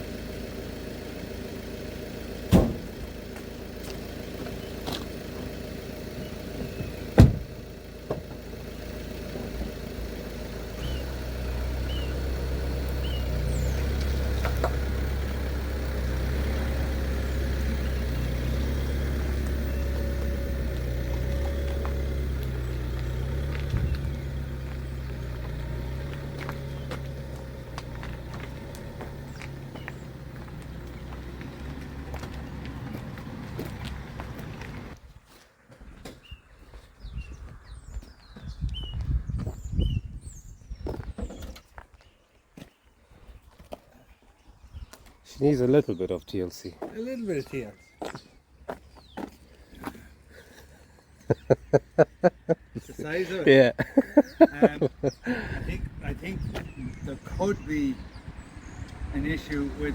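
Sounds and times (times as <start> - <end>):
vehicle engine running low: 0.0 - 35.1, 44.6 - 59.9.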